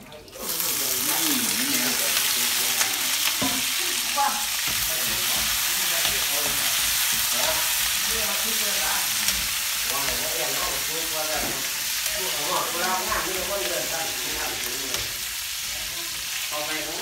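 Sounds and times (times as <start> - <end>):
leaves sizzling in hot oil: 0.1 - 17.0.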